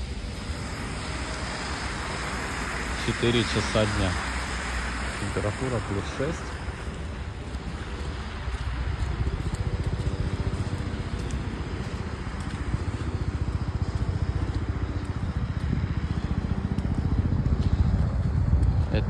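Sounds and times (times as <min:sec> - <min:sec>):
road traffic noise: 0:00.0 - 0:19.0
wind buffeting microphone: 0:00.0 - 0:19.0.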